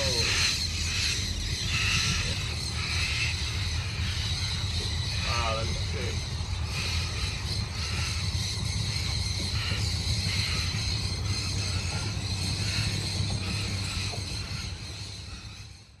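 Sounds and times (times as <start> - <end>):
outboard motor running: 0.0 - 15.9.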